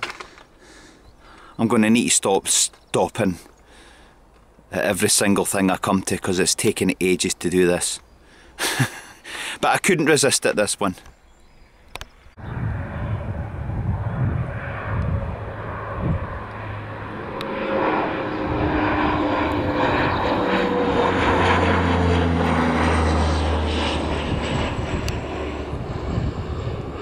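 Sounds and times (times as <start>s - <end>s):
low-flying aircraft engine drone: 0.0s - 27.0s.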